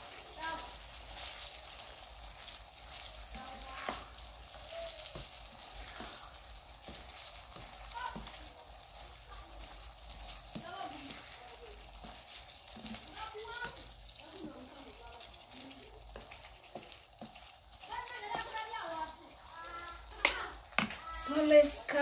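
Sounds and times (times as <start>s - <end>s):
wooden spatula scraping a pan: 0.0s - 19.3s
vegetables sizzling in oil: 0.0s - 22.0s.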